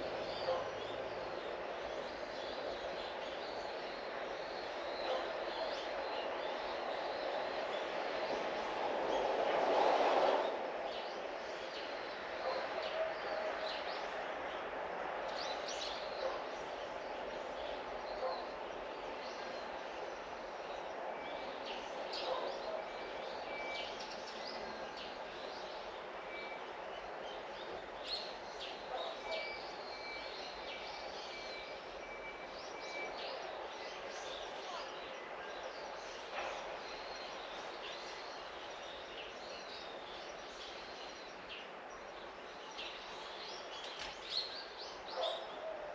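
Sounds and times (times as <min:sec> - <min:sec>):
outdoor ambient hiss: 0:00.0 - 0:45.9.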